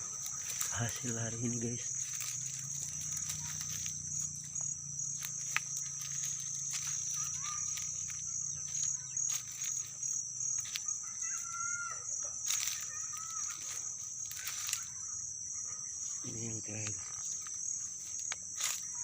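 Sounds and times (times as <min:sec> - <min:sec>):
faint low hum: 0:00.0 - 0:19.0
insect chorus: 0:00.0 - 0:19.0.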